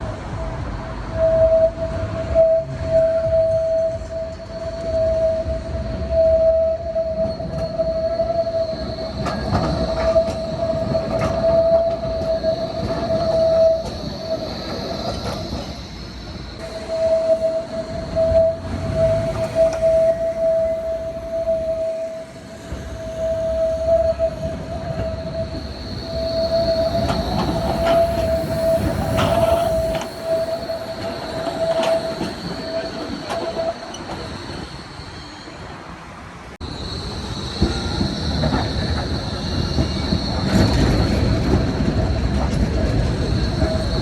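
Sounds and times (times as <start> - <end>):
tram running gear rumble: 0.0 - 44.0
tram wheels squealing on rails: 0.0 - 44.0.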